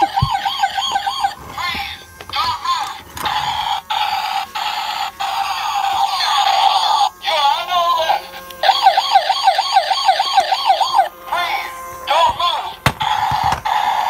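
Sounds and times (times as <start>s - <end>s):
toy electronic siren: 0.0s - 14.0s.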